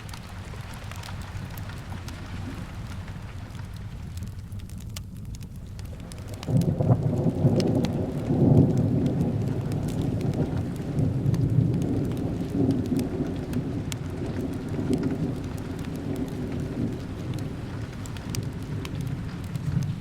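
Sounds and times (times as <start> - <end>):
low rumble of thunder: 0.0 - 20.0
steady rain: 0.0 - 20.0.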